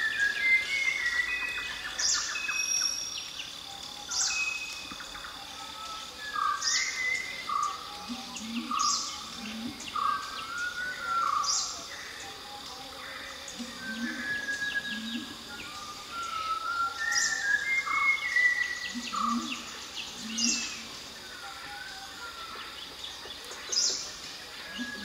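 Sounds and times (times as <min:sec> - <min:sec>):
thrush singing whistled notes: 0:00.0 - 0:22.8.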